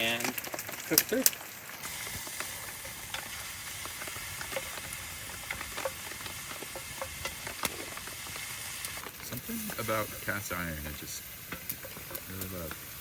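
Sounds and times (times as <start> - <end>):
crackles and pops of frying: 0.0 - 13.0
ground beef sizzling in a pot: 0.0 - 13.0.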